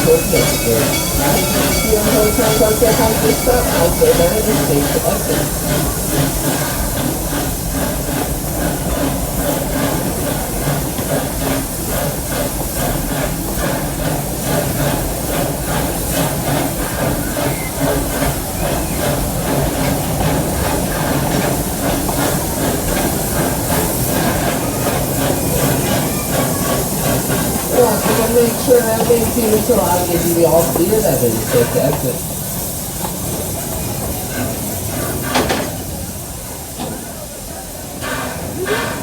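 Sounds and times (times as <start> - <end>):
steam hissing: 0.0 - 39.0
train rumbling: 0.0 - 39.0.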